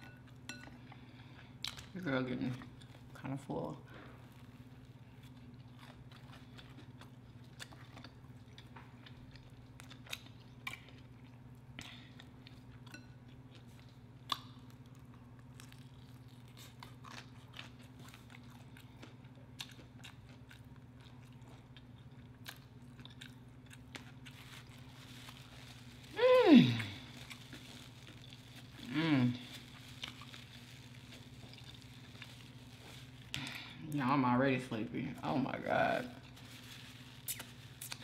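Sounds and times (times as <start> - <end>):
person chewing crunchy food: 4.2 - 33.8, 36.2 - 38.0.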